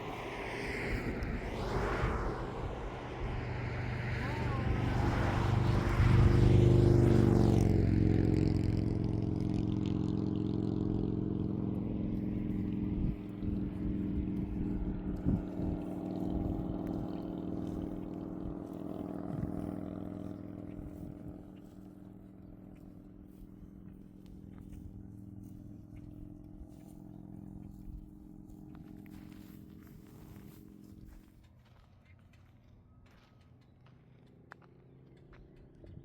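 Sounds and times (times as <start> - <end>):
vehicle engine passing by: 0.0 - 31.5.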